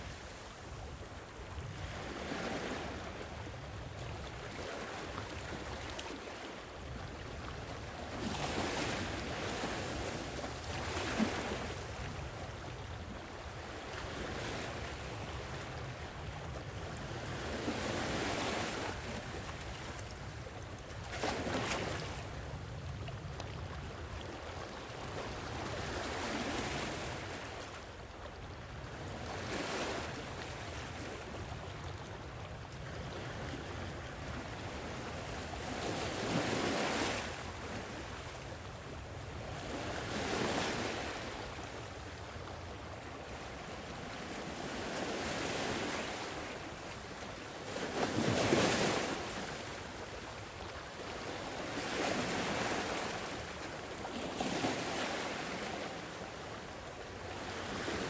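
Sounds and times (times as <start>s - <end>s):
low rumble of surf: 0.0s - 58.0s.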